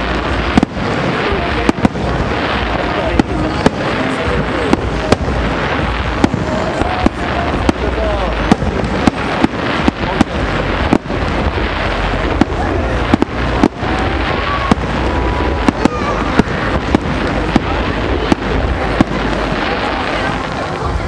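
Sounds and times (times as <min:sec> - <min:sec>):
fireworks bangs: 0:00.0 - 0:21.0
fireworks crackle and hiss: 0:00.0 - 0:21.0.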